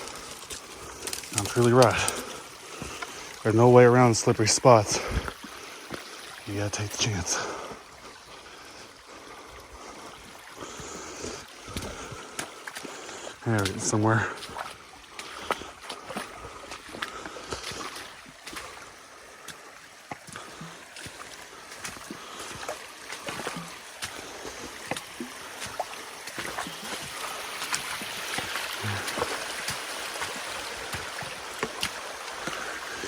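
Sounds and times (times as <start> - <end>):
creek water over rocks: 0.0 - 33.0
footsteps splashing in stream: 0.0 - 33.0.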